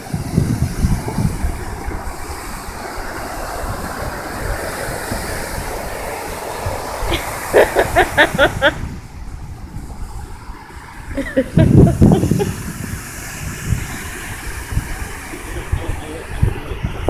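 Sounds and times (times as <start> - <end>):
ocean surf washing on beach: 0.0 - 17.0
wind buffeting microphone: 0.0 - 17.0.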